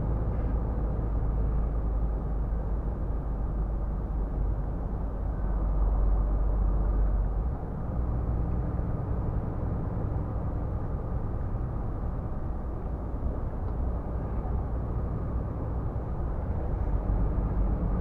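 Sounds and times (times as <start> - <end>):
truck engine and tyres droning: 0.0 - 18.0.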